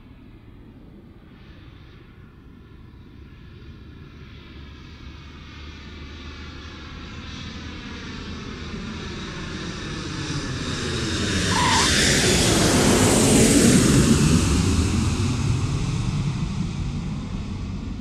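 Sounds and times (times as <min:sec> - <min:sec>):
airplane passing overhead: 0:00.0 - 0:18.0.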